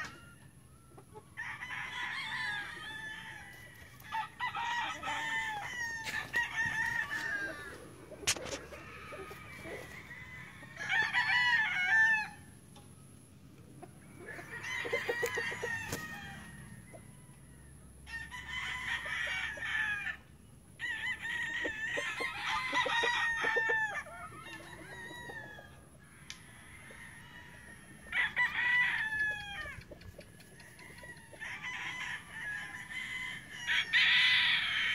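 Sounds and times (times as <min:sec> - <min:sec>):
roosters crowing: 0:00.0 - 0:34.9.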